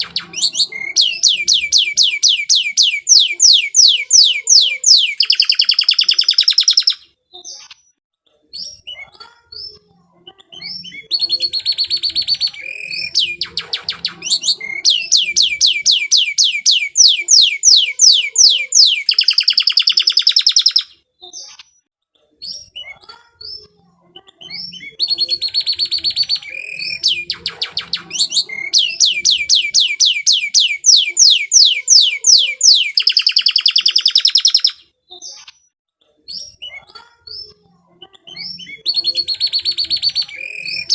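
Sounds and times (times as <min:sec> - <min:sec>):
canary singing trills: 0:00.0 - 0:07.8, 0:08.6 - 0:21.6, 0:24.2 - 0:35.6, 0:36.3 - 0:40.9.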